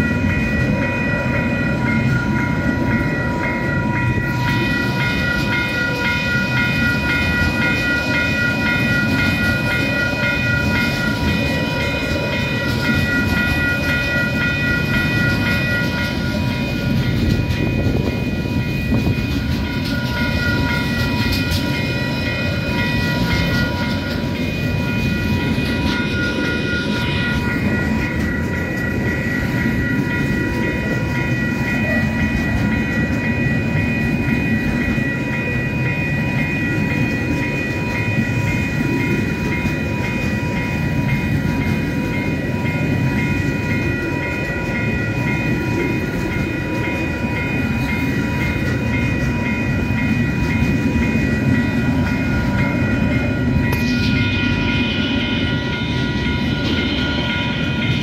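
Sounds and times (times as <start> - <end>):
crossing warning bell ringing: 0.0 - 58.0
freight train wagons rumbling: 0.0 - 58.0.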